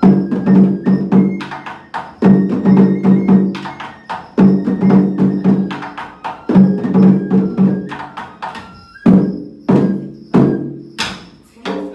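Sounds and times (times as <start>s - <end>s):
festival dance music with drums: 0.0s - 11.4s.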